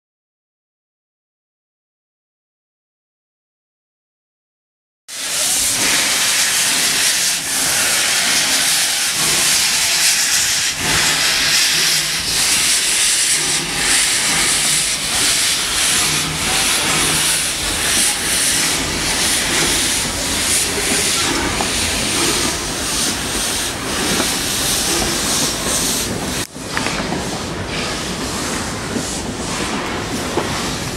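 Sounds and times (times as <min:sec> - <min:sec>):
steam hissing: 0:05.1 - 0:30.9
steam locomotive chuffing: 0:05.1 - 0:30.9.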